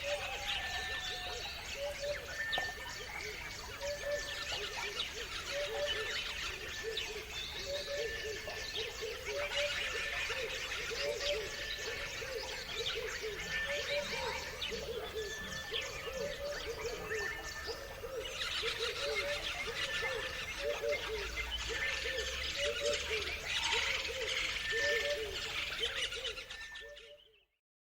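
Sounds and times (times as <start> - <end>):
birds chirping chorus: 0.0 - 27.6.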